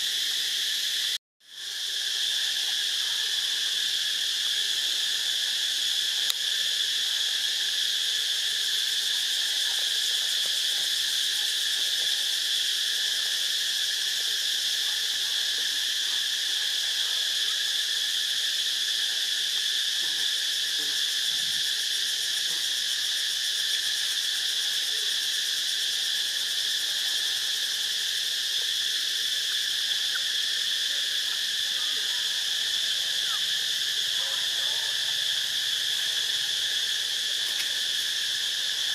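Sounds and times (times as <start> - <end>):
insect chorus buzzing: 0.0 - 38.9.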